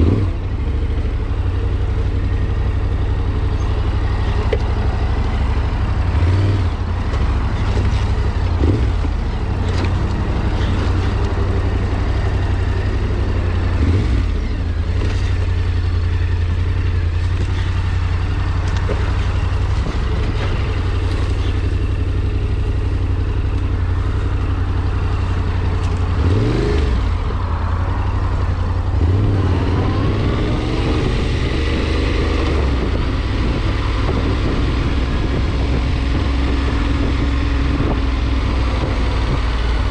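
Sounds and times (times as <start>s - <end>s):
vehicle engine running and revving: 0.0s - 39.9s.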